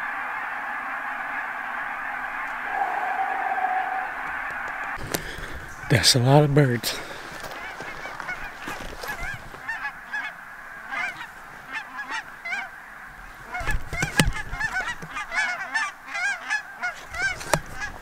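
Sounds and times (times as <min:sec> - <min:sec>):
geese honking: 0:00.0 - 0:18.0.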